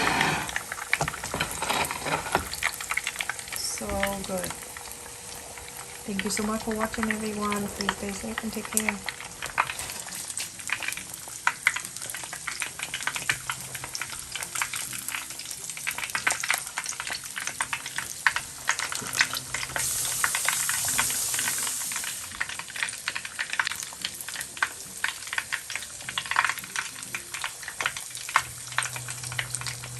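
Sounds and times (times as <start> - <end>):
deep-frying in hot oil: 0.0 - 29.9.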